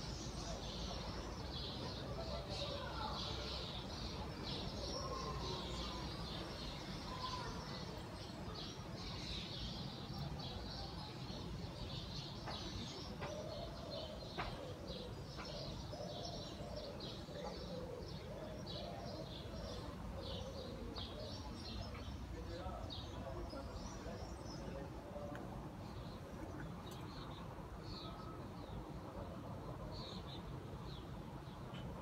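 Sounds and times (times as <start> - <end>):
flock of small birds chirping: 0.0 - 32.0.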